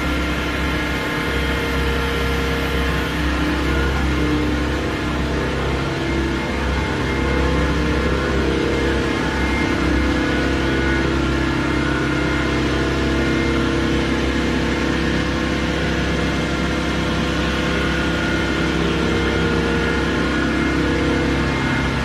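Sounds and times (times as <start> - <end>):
industrial machinery drone: 0.0 - 22.0.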